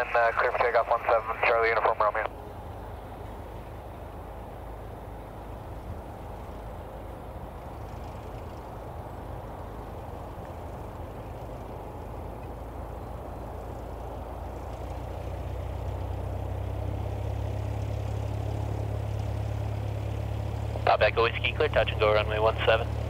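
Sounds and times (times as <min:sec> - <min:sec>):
turboprop engine at takeoff power: 0:00.0 - 0:23.0.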